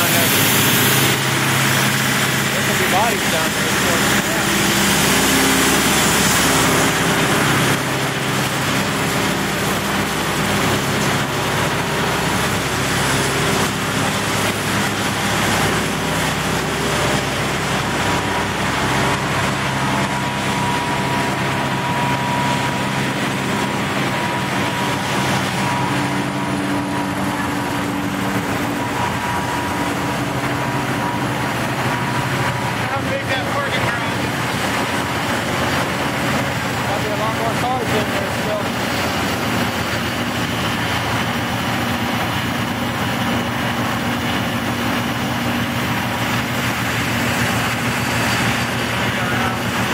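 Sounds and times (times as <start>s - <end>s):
pump engines running: 0.0s - 49.9s
steady high whine: 0.0s - 49.9s.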